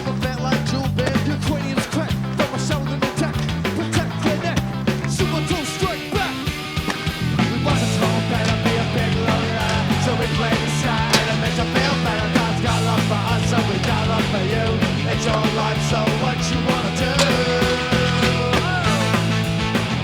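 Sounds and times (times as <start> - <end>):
bass guitar: 0.0 - 20.0
distorted electric guitar: 0.0 - 20.0
steady drum beat: 0.0 - 20.0.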